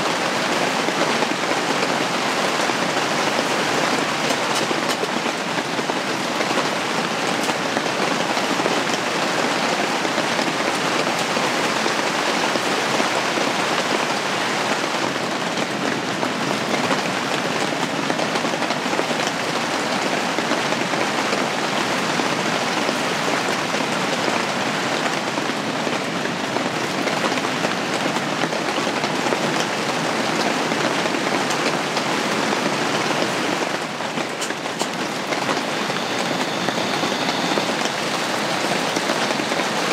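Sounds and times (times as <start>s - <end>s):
rain on fabric roof: 0.0s - 39.9s.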